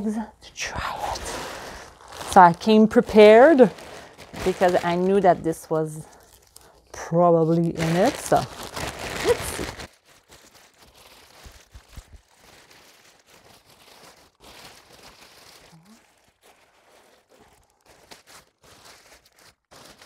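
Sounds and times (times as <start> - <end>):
plastic bags rustling and crinkling: 0.8 - 20.0.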